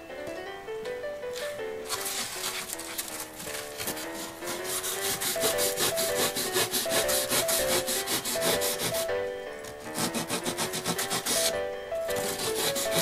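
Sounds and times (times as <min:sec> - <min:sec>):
background music: 0:00.0 - 0:13.0
hand tool scraping foam: 0:01.9 - 0:09.1, 0:09.7 - 0:13.0.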